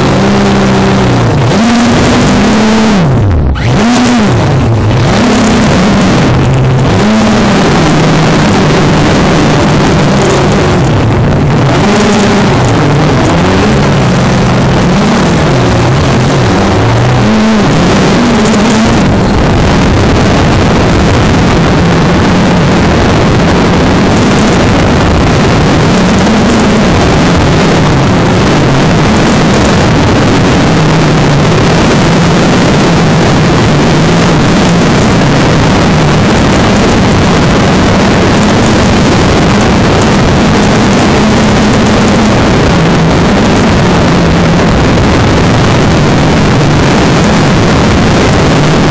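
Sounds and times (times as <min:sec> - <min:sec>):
drone propellers buzzing: 0:00.0 - 0:48.9.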